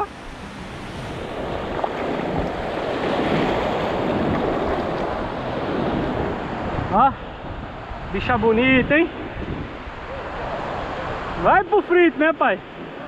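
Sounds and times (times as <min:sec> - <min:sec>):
wind buffeting microphone: 0:00.0 - 0:11.9
ocean surf breaking: 0:00.0 - 0:13.0.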